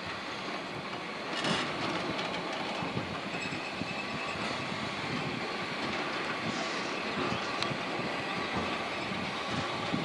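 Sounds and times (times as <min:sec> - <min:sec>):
train wheels clattering over rail joints: 0:00.0 - 0:10.0.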